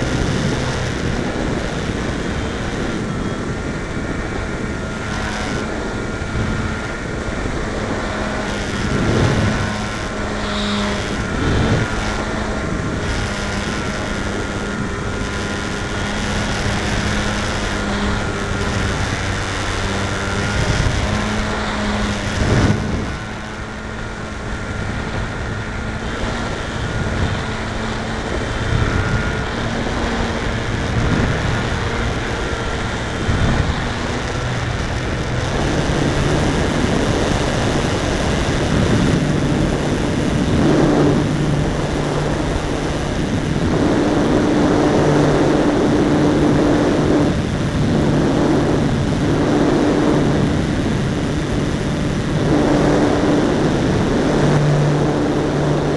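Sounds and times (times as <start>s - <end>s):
electric motor and propeller hum: 0.0s - 55.9s
wind noise on microphone: 0.0s - 55.9s.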